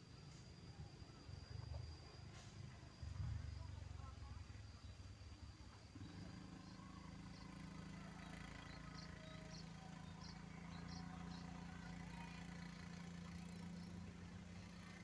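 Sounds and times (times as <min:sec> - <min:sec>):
faint low engine hum: 0:00.0 - 0:15.0.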